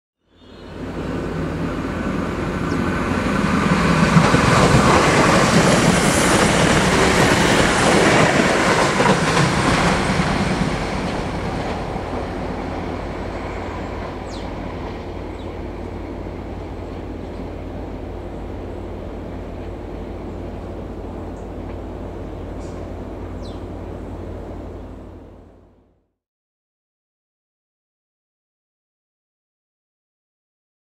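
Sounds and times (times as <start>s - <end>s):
train passing at speed: 0.3s - 26.0s.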